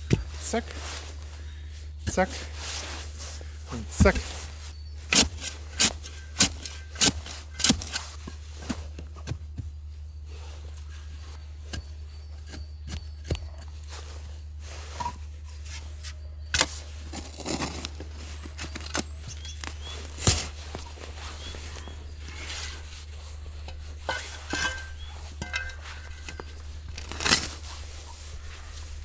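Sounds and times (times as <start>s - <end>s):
rustling: 0.0s - 11.6s, 13.6s - 29.0s.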